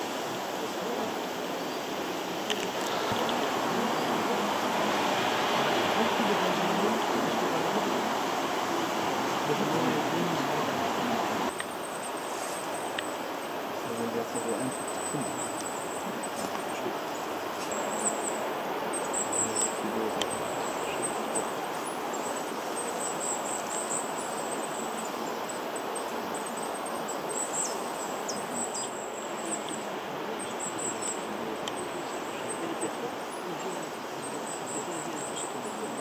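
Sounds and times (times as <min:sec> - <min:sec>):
background hiss: 0:00.0 - 0:36.0.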